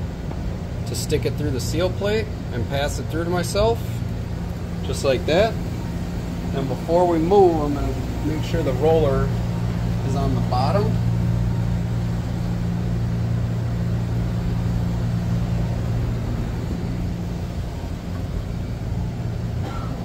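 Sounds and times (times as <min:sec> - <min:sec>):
constant rushing noise: 0:00.0 - 0:20.0
machinery humming: 0:00.0 - 0:20.0.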